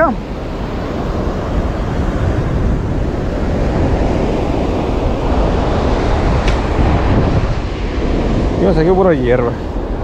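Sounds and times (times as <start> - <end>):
surf washing on shore: 0.0 - 10.0
wind rumbling on microphone: 0.0 - 10.0.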